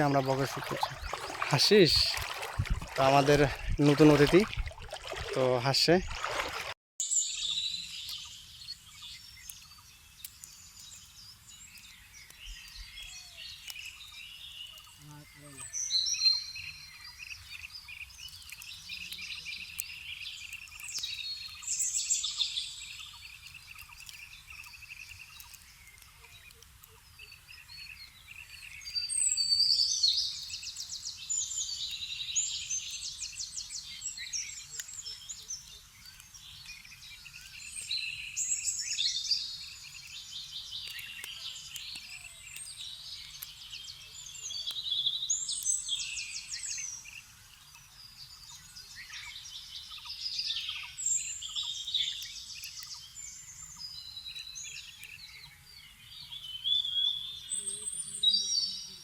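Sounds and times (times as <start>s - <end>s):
small birds singing and trilling: 0.0s - 59.0s.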